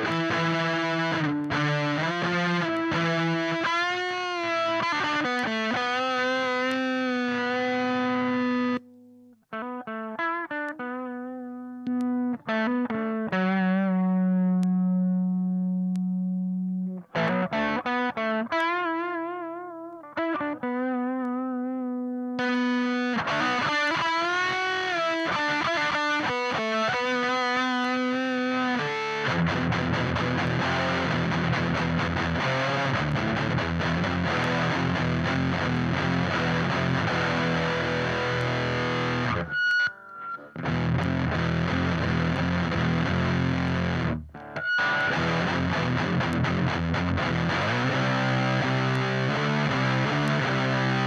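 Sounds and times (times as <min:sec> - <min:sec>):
distorted electric guitar: 0:00.0 - 0:51.0.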